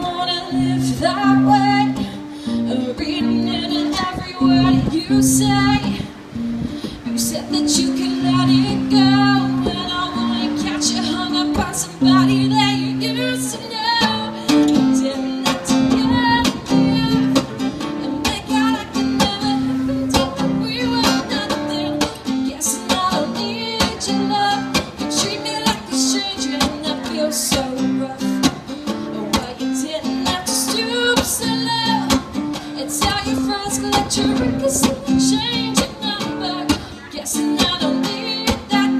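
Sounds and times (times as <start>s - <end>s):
acoustic guitar strumming: 0.0s - 38.9s
woman singing: 0.0s - 38.9s.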